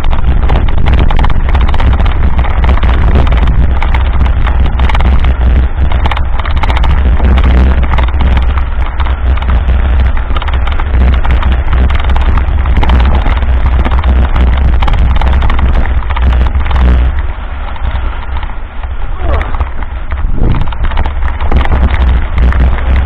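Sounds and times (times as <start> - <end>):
bike clattering on dirt road: 0.0 - 23.0
wind buffeting microphone: 0.0 - 23.0.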